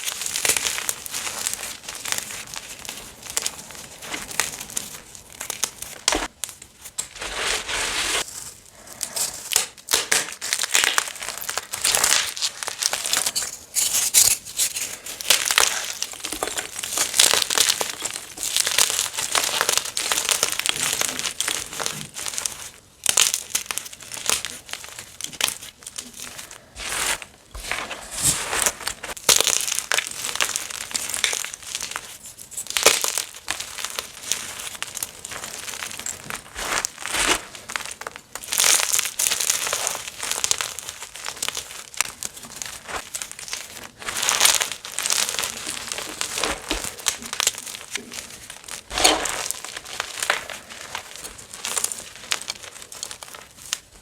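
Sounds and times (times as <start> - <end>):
chalk crunching by hand: 0.0 - 54.0.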